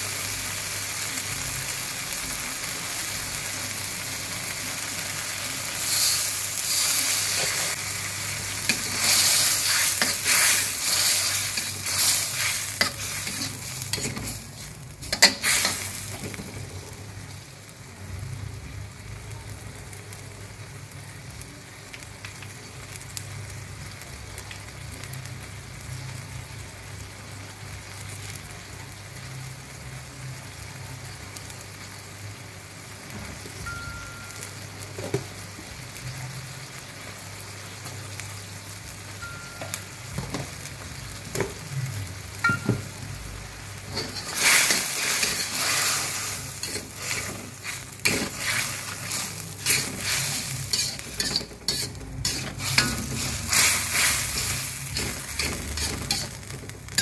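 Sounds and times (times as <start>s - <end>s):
sauce sizzling in a wok: 0.0s - 57.0s.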